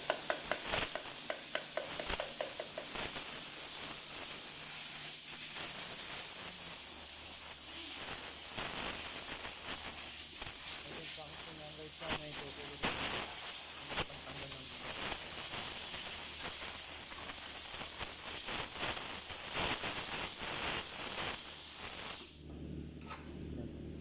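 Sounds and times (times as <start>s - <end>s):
compressed air hissing: 0.0s - 22.4s.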